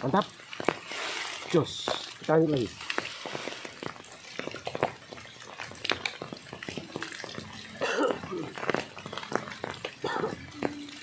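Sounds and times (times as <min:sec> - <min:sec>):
rain falling on water: 0:00.0 - 0:11.0.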